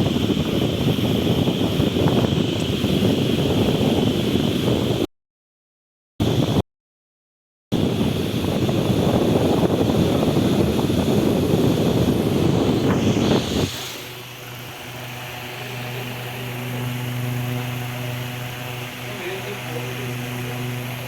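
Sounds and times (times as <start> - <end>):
fan air fluttering on microphone: 0.0 - 5.1, 6.2 - 6.6, 7.7 - 21.0
fan motor hum: 0.0 - 5.1, 6.2 - 6.6, 7.7 - 21.0.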